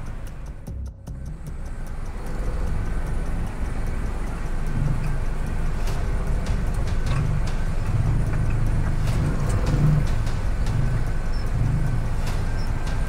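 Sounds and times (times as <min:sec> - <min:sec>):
light clicks: 0:00.0 - 0:13.0
vehicle engine and road rumble: 0:00.0 - 0:13.0.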